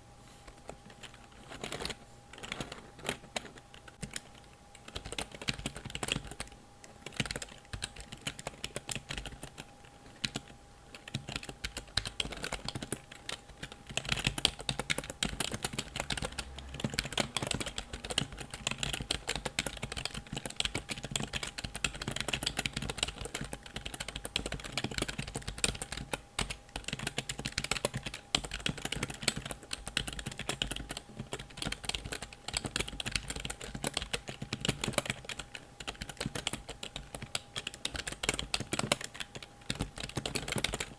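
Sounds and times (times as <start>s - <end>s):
keyboard keys clicking: 0.8s - 40.9s.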